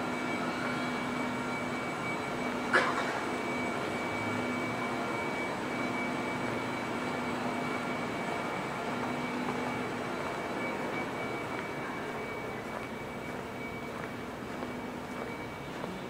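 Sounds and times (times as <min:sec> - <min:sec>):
faint constant tones: 0:00.0 - 0:16.0
underground platform background hum: 0:00.0 - 0:16.0.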